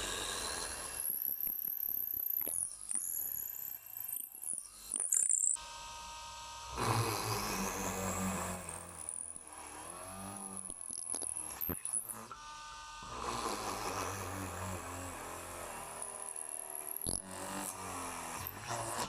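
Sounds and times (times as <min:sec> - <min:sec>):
small electric drill motor whining: 0:00.0 - 0:19.0.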